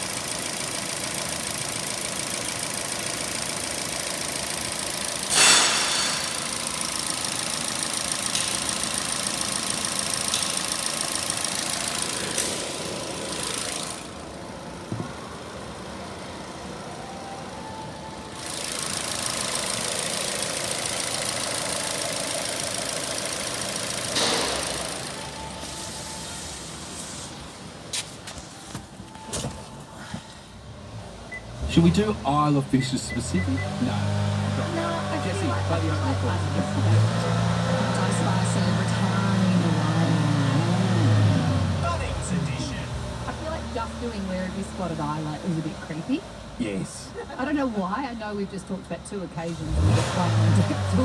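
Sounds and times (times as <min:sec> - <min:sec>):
car engine idling and revving: 0:00.0 - 0:51.0.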